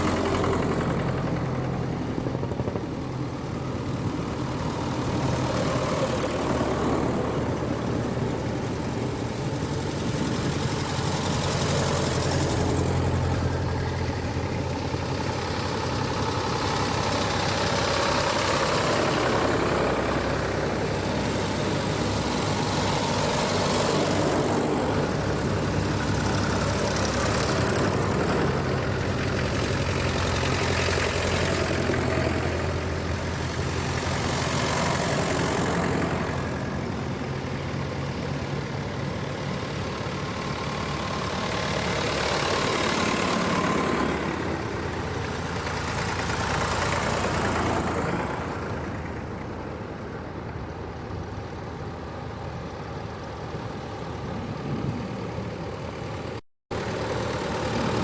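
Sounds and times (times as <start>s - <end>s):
tractors driving past: 0.0s - 58.0s.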